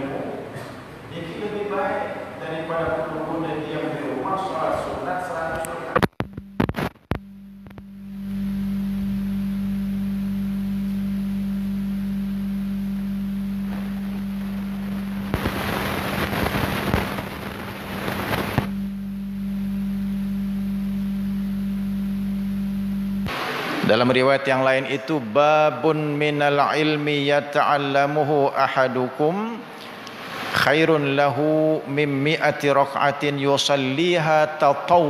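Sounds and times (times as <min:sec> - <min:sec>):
low electronic hum: 0:00.0 - 0:34.2.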